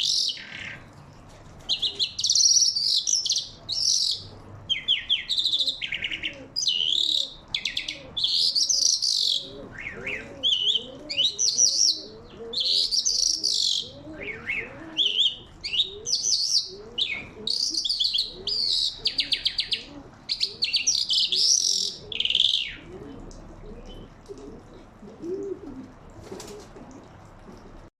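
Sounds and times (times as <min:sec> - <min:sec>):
songbird singing: 0:00.0 - 0:00.9, 0:01.7 - 0:24.3
pigeons cooing: 0:00.0 - 0:27.9.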